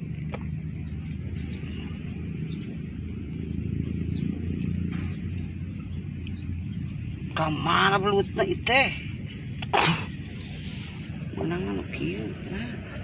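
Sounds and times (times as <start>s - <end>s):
motor rumbling: 0.0s - 13.0s.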